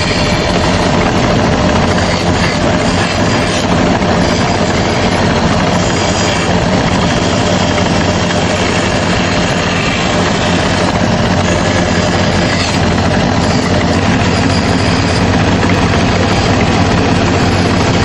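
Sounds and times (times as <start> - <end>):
woodworking power tool running: 0.0 - 18.0.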